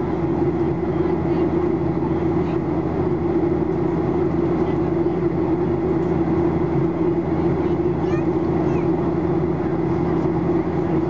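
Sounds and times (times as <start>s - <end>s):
jet engines droning in cabin: 0.0s - 11.0s.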